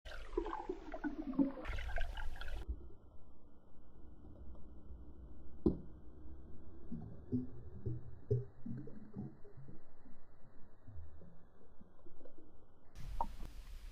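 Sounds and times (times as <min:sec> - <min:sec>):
water sloshing and bubbling: 0:00.0 - 0:13.9.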